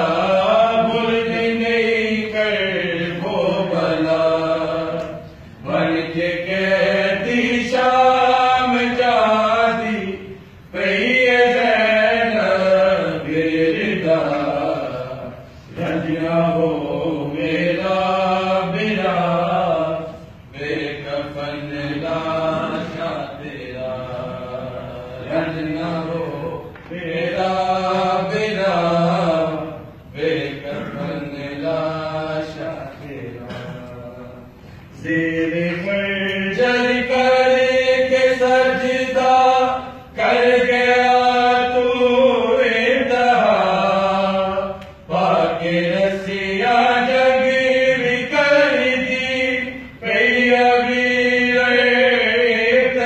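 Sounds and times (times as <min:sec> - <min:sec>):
men chanting a lament: 0:00.0 - 0:53.0.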